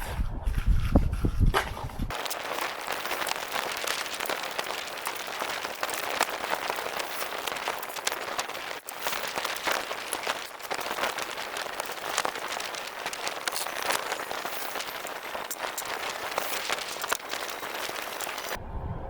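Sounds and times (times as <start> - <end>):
plastic sheet crinkling: 2.1 - 18.6.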